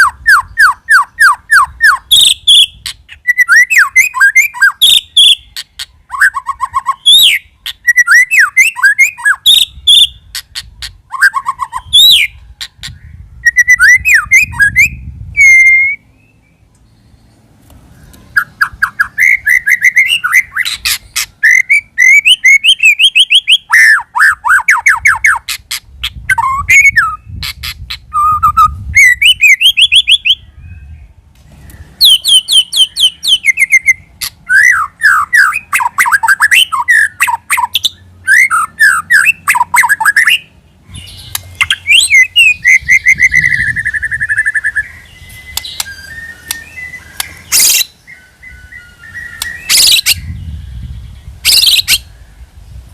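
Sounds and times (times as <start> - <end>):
songbird whistling and trilling: 0.0 - 17.3, 18.0 - 52.7.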